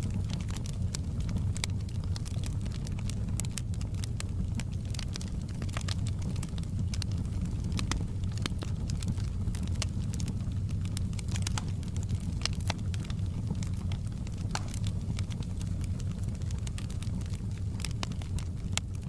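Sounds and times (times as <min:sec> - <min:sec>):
campfire flames rumbling: 0:00.0 - 0:19.0
wood crackling and popping: 0:00.0 - 0:19.0.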